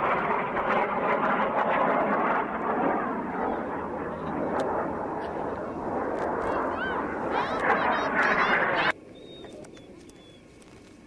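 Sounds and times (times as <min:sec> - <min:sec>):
aircraft flying overhead: 0:00.0 - 0:11.0.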